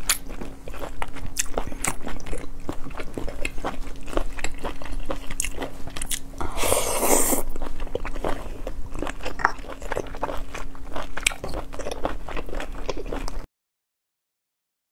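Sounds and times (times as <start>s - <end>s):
wet chewing and smacking: 0.0s - 13.5s.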